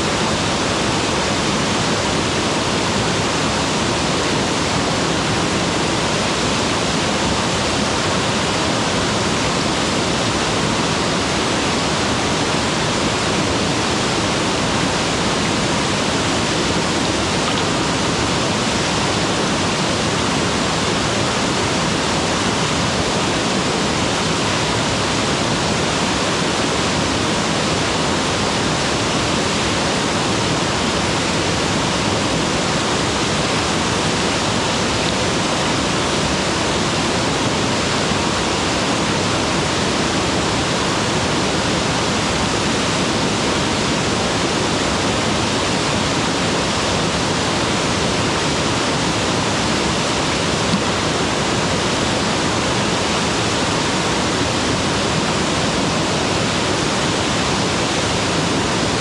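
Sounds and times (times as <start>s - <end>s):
waterfall pouring and splashing: 0.0s - 59.0s.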